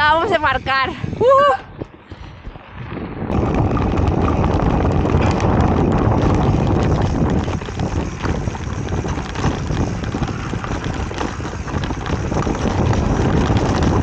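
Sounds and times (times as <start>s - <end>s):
bike tyres on dirt: 0.0s - 14.0s
wind buffeting microphone: 0.0s - 14.0s.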